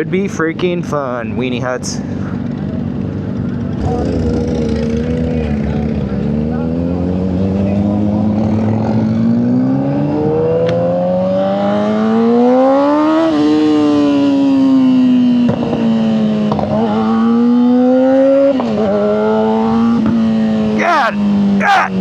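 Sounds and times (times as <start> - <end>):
motorcycle engine revving: 2.4 - 22.0.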